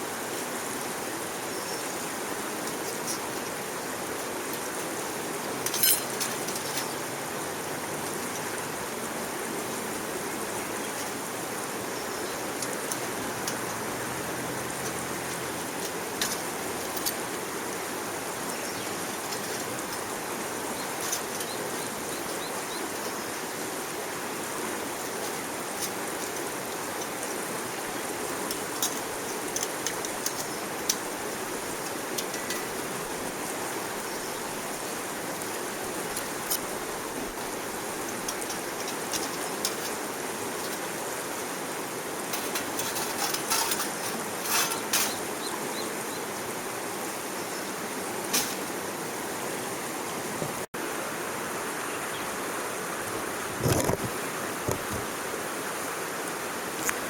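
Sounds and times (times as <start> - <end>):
stove fire rushing hiss: 0.0 - 50.8.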